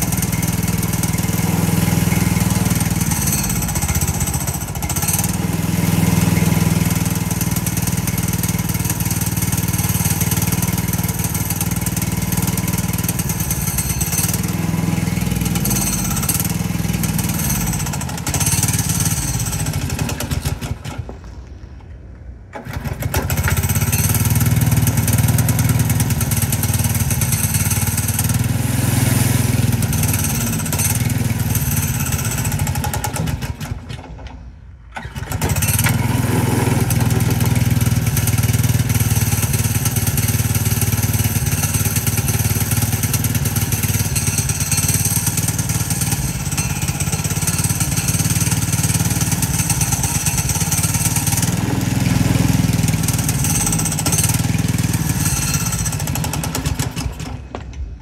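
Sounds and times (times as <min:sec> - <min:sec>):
scooter engine revving: 0:00.0 - 0:21.2, 0:22.6 - 0:33.9, 0:35.0 - 0:57.6.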